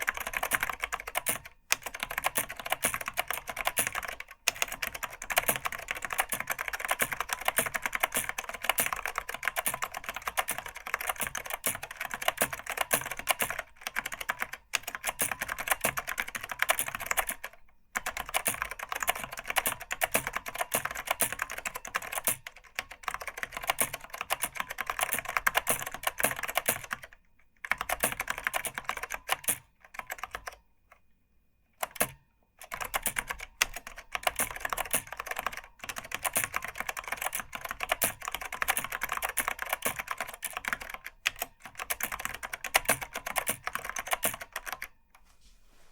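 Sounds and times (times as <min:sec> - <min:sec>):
fast keyboard typing: 0:00.0 - 0:30.6, 0:31.8 - 0:45.0.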